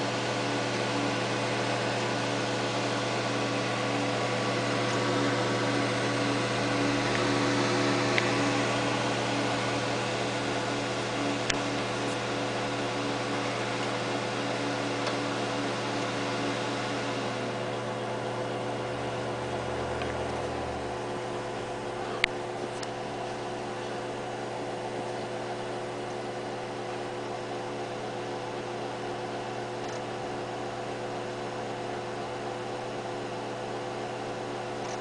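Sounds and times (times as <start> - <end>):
computer fans whirring: 0.0 - 35.0.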